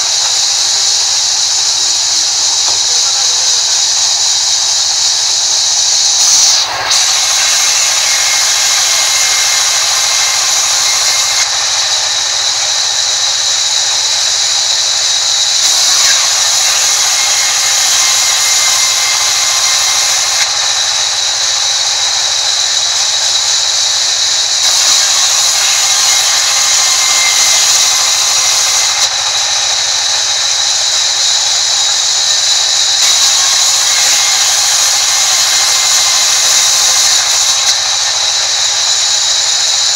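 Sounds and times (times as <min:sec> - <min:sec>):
band saw blade whine: 0:00.0 - 0:39.9.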